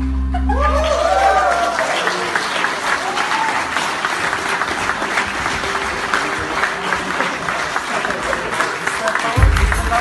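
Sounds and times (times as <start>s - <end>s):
audience applauding: 0.6s - 10.0s.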